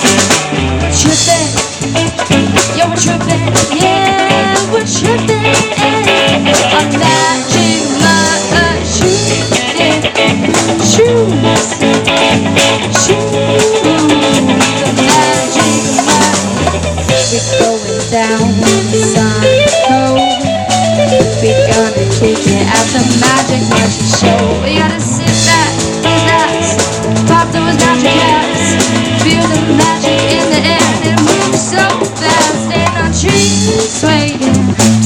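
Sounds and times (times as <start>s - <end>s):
bass line: 0.0s - 35.0s
drum kit: 0.0s - 35.0s
guitar: 0.0s - 35.0s.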